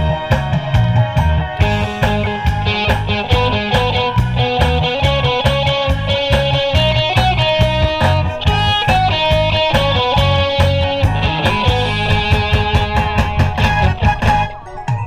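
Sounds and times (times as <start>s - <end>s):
backing music with steady beat: 0.0s - 15.0s
electric guitar lead line: 0.0s - 15.0s.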